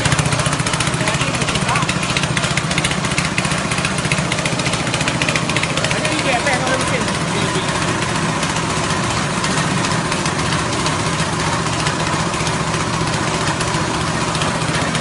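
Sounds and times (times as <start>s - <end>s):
grinding mill: 0.0s - 15.0s
petrol engine running: 0.0s - 15.0s.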